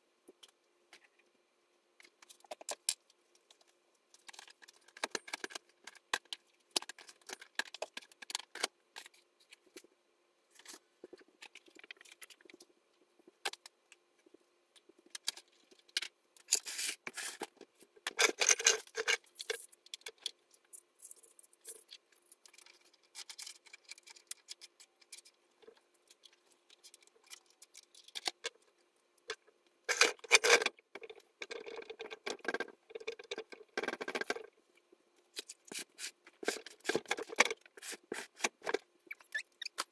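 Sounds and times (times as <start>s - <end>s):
items clicking and clattering: 2.0s - 9.9s, 10.6s - 34.6s, 35.3s - 39.9s
rustling of items being handled: 2.0s - 39.9s.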